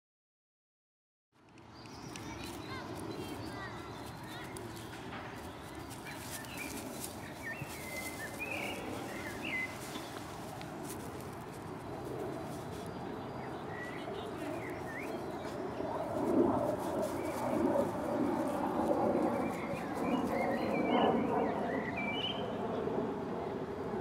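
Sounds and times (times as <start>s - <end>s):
steady outdoor hiss: 1.4s - 22.4s
wild birds chirping: 1.8s - 22.8s.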